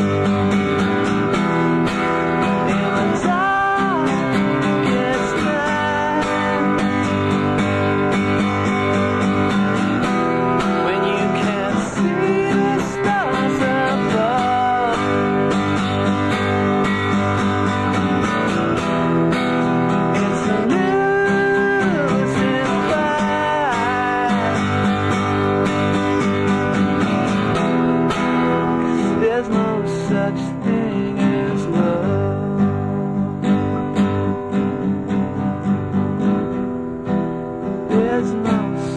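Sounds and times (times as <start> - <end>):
sliding guitar melody: 0.0 - 38.9
strummed acoustic guitar: 0.0 - 38.9.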